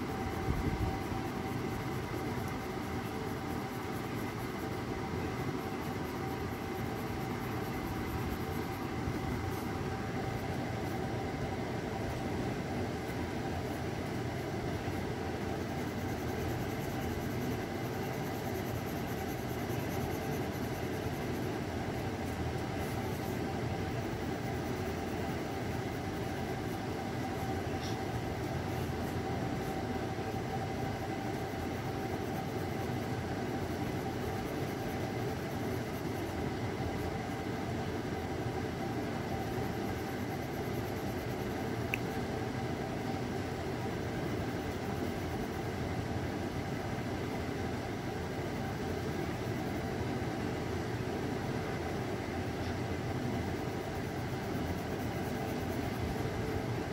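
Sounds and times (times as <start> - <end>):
faint constant hum: 0.0 - 56.9.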